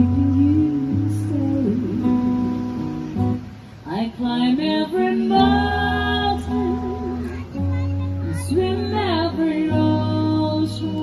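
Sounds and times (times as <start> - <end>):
woman singing: 0.0 - 3.0, 3.8 - 11.0
acoustic guitar strummed: 0.0 - 11.0.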